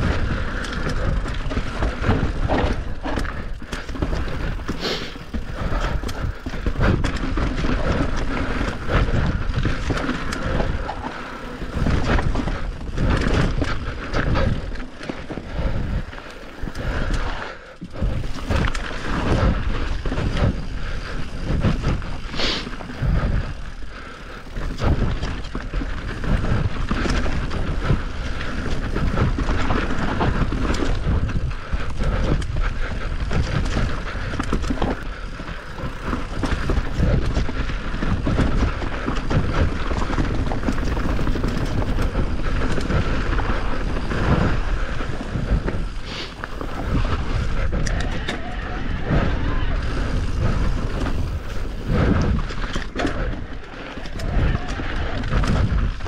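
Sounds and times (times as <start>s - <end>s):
motorbike rattling and rumbling: 0.0s - 56.0s
wind buffeting microphone: 0.0s - 56.0s.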